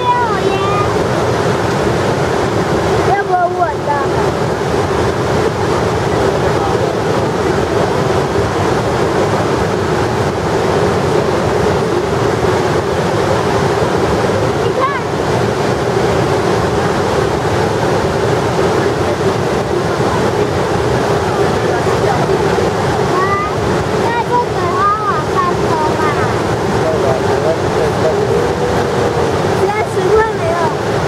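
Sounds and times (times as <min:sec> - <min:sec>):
water rushing from spillway: 0:00.0 - 0:31.0.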